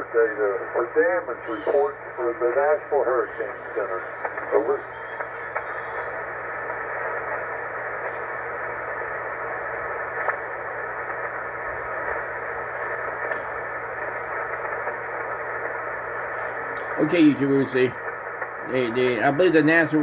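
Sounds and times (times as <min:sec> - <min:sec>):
faint radio crackles: 0:00.0 - 0:20.0
radio static hiss: 0:00.0 - 0:20.0.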